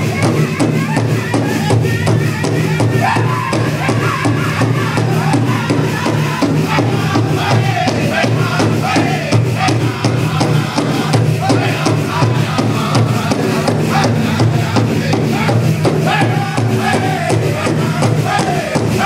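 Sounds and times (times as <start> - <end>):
big hand drum beating fast: 0.0 - 19.0
group singing: 0.0 - 19.0.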